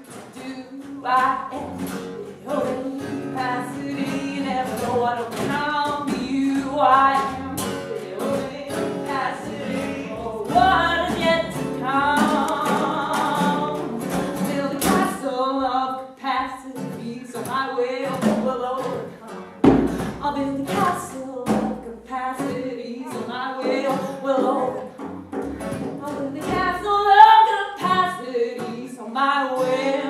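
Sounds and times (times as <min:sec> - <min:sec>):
person singing: 0:00.0 - 0:25.0, 0:25.8 - 0:30.0
strummed acoustic guitar: 0:00.0 - 0:30.0.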